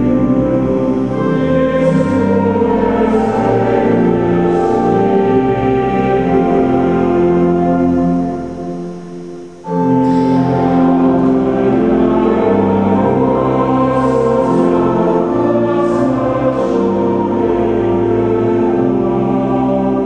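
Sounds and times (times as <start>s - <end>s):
congregation singing a hymn: 0.0s - 20.0s
pipe organ: 0.0s - 20.0s.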